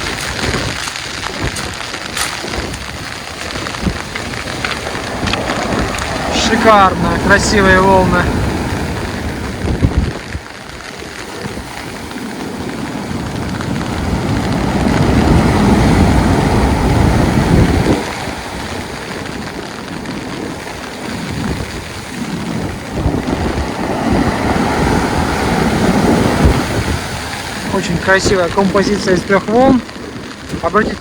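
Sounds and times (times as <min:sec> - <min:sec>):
storm surf breaking on beach: 0:00.0 - 0:31.0
wind buffeting microphone: 0:00.0 - 0:31.0.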